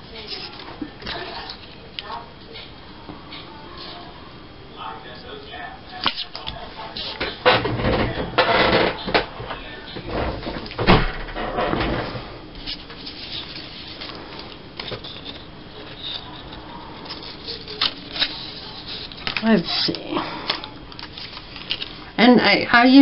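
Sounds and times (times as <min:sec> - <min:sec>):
paper rustling and shuffling: 0:00.1 - 0:02.7, 0:06.0 - 0:22.1.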